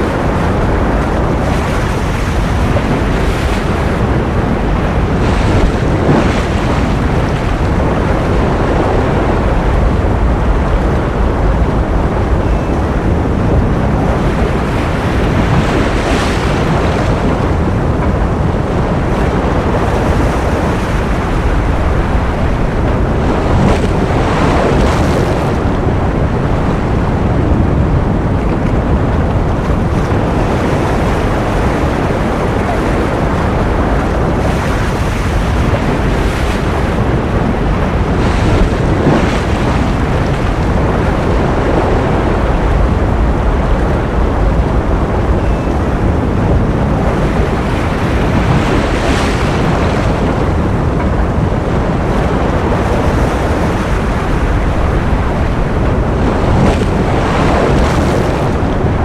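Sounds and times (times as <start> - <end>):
ocean surf rushing: 0.0 - 59.0.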